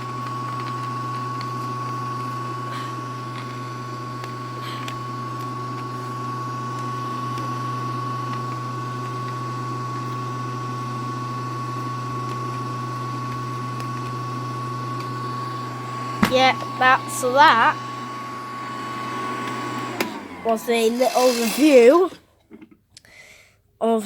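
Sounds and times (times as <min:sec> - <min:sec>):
toy vacuum motor humming and whining: 0:00.0 - 0:22.2.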